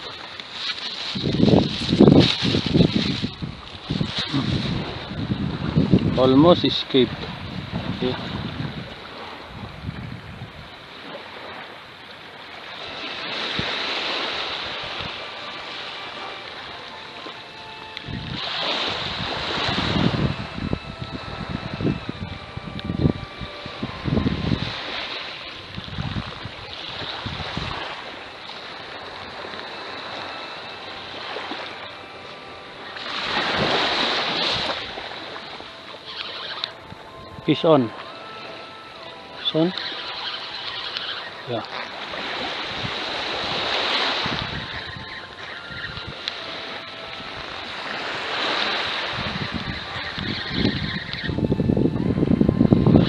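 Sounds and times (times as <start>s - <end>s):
wind noise on microphone: 0.0s - 11.7s, 12.7s - 31.9s, 33.0s - 53.0s
small waves washing on beach: 0.0s - 53.0s.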